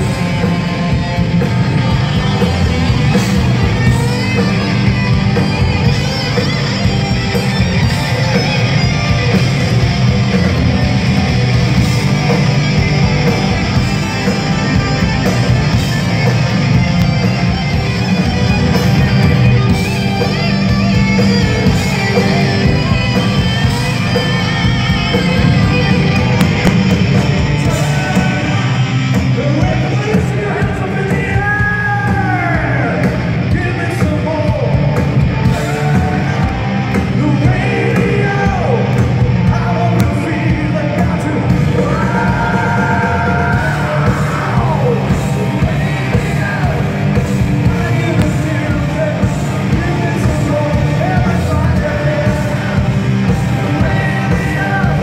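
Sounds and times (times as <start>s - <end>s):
hard rock band playing: 0.0s - 55.0s.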